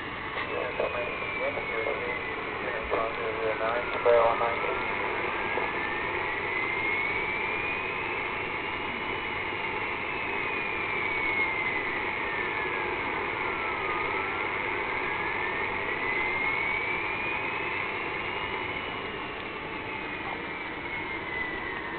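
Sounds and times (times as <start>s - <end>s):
radio static hiss: 0.2s - 21.1s
wailing radio tone: 0.4s - 21.9s.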